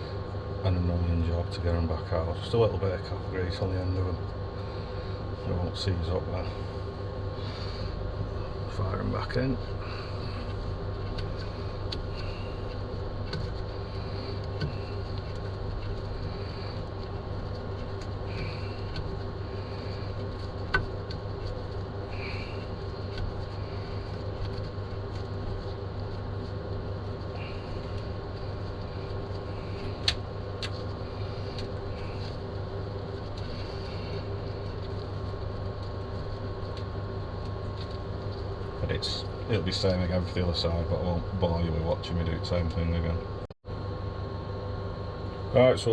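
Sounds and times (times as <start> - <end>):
steady motor hum: 0.0 - 45.9.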